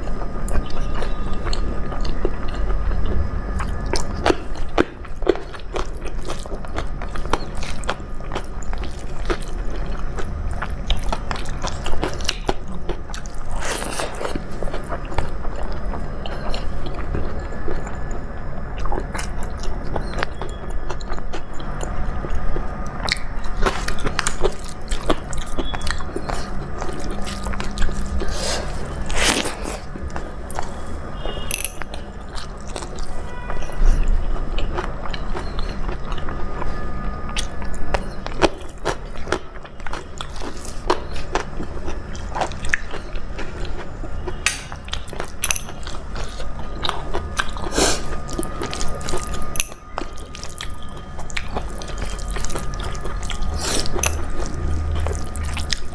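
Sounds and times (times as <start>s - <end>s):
person chewing food: 0.0s - 55.9s
steady low hum: 0.0s - 55.9s.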